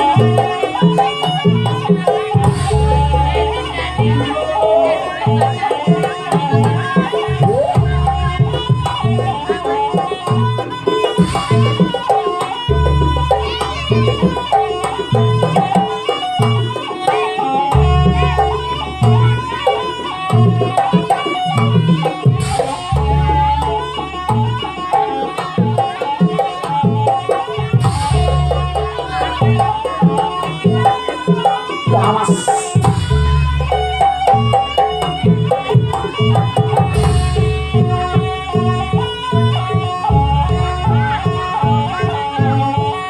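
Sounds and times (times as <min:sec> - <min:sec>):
hand drum rhythm: 0:00.0 - 0:43.0.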